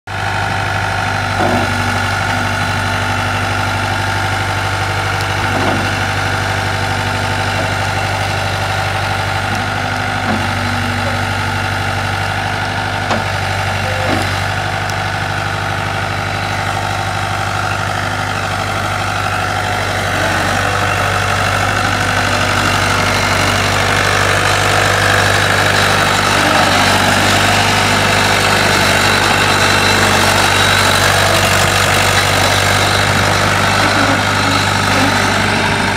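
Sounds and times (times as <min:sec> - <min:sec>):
skid steer engine running: 0:00.1 - 0:35.9.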